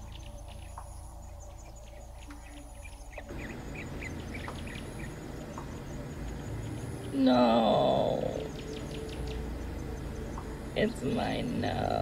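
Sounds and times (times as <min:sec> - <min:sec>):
faint bird chirps: 0:00.0 - 0:12.0
steady low hum: 0:00.0 - 0:12.0.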